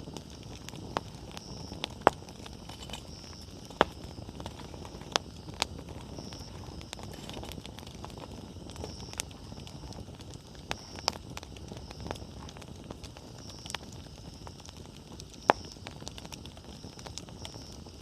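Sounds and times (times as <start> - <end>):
burning firewood popping: 0.0 - 18.0
campfire flame hissing: 0.0 - 18.0.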